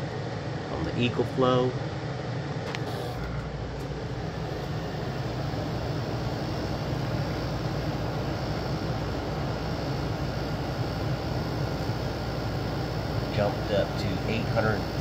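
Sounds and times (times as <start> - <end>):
air conditioner fan noise: 0.0 - 15.0
compressor low hum: 0.0 - 15.0.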